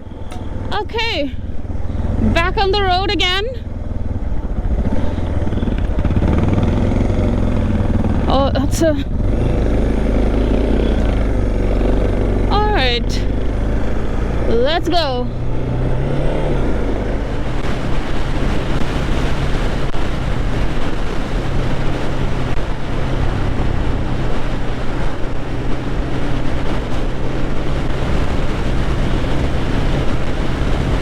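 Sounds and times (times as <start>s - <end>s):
motorcycle engine running: 0.0s - 31.0s
wind rush on microphone: 0.0s - 31.0s.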